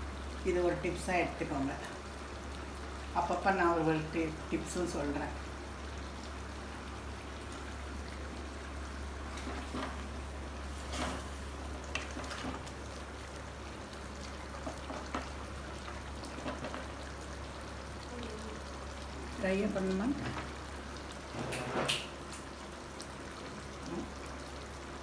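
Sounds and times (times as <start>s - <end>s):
gravy simmering and sizzling: 0.0s - 25.0s.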